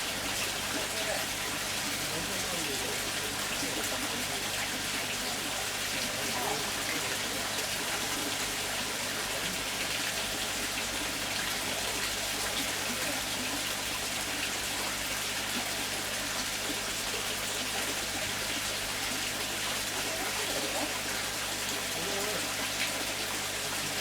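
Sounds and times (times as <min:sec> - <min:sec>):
rushing water: 0:00.0 - 0:24.0.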